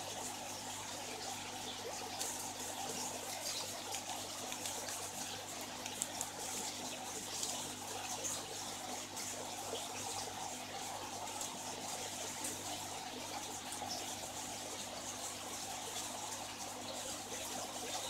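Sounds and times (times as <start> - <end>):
water bubbling and trickling: 0.0 - 18.0.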